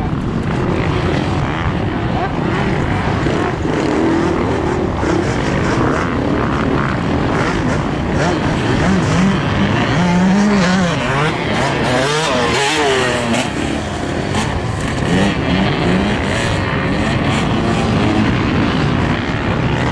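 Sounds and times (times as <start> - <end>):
dirt bike engine revving: 0.1 - 19.9.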